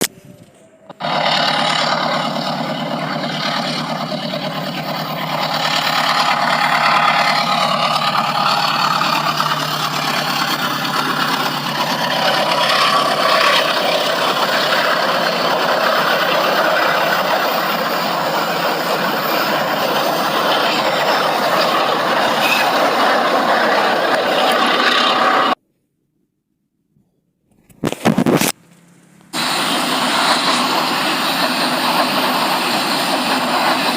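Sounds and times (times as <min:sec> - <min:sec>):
train engine: 0:00.0 - 0:25.6, 0:27.9 - 0:33.9
train wheels on rails: 0:00.0 - 0:25.6, 0:28.3 - 0:33.9.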